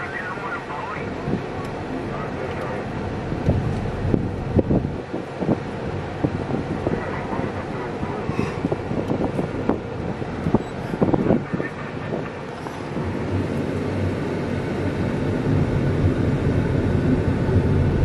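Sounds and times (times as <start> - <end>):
low rumble: 0.0 - 18.0
road and engine noise: 0.0 - 18.0.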